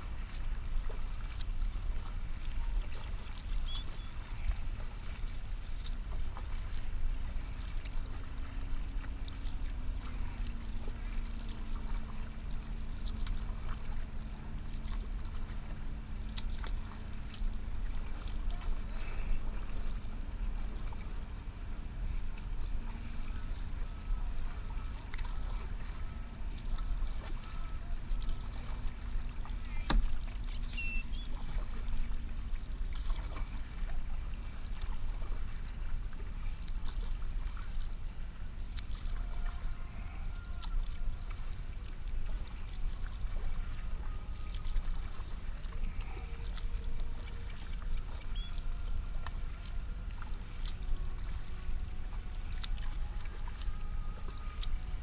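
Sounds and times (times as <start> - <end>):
low rumble: 0.0 - 55.0
paddle strokes: 0.0 - 55.0
water lapping against hull: 0.0 - 55.0.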